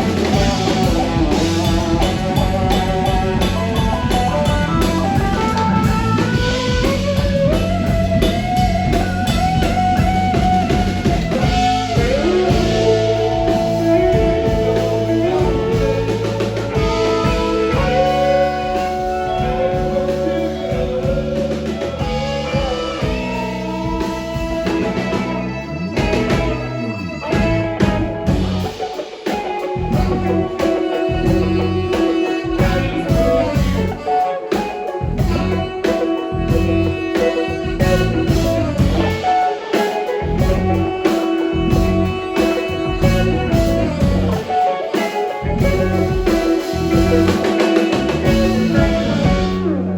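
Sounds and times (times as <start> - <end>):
blues-rock band playing: 0.0 - 49.9
drum kit: 0.0 - 49.9
lead guitar bending notes: 0.0 - 49.9.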